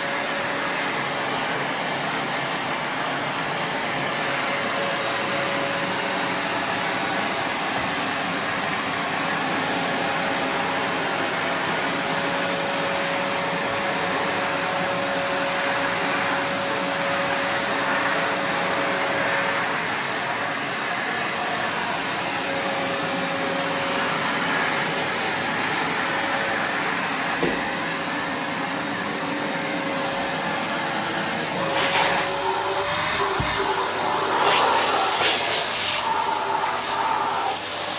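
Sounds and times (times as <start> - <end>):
wet-and-dry vacuum running: 0.0 - 37.9.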